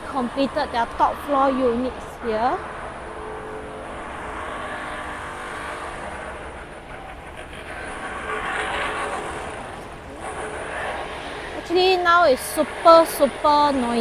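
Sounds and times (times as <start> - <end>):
faint steady hum: 0.0 - 14.0
mechanical engine noise: 0.0 - 14.0.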